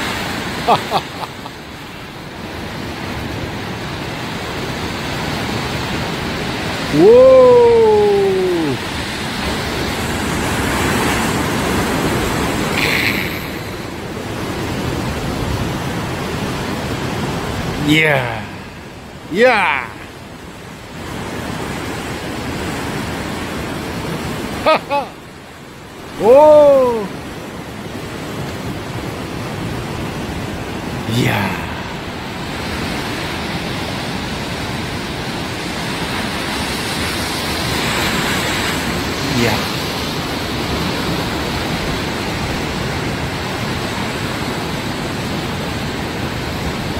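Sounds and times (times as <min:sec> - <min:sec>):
sea surf: 0:00.0 - 0:46.9
wind: 0:00.0 - 0:46.9.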